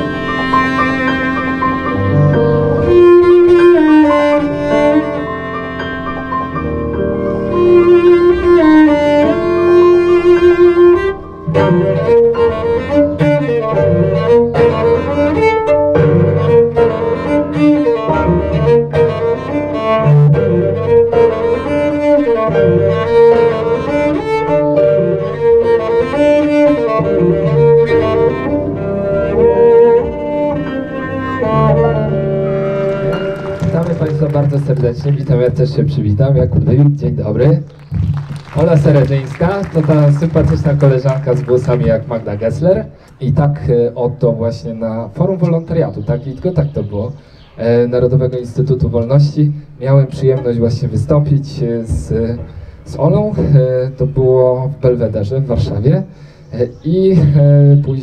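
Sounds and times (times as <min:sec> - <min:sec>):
cello bowed notes: 0:00.0 - 0:36.8, 0:37.4 - 0:43.0, 0:43.8 - 0:55.8
piano chords: 0:00.0 - 0:55.8.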